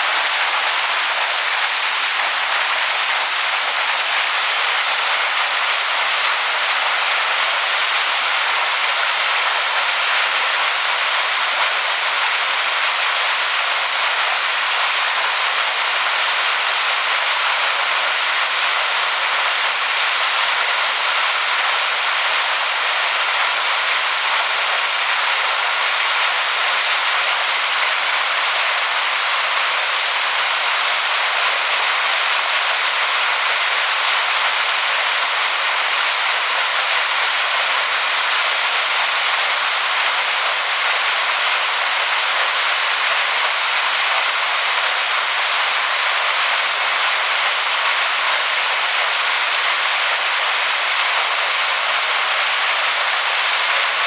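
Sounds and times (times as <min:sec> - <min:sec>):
waterfall rushing over stones: 0:00.0 - 0:54.0.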